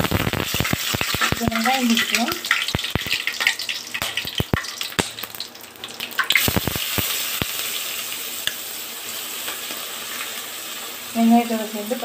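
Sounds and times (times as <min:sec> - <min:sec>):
onions sizzling in oil: 0:00.0 - 0:12.0
spices popping in hot oil: 0:00.0 - 0:12.0.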